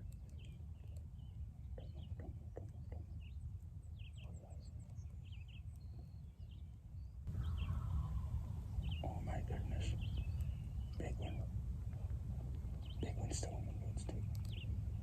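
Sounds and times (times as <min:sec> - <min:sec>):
faint bird chirps: 0:00.0 - 0:15.0
low wind rumble: 0:00.0 - 0:15.0.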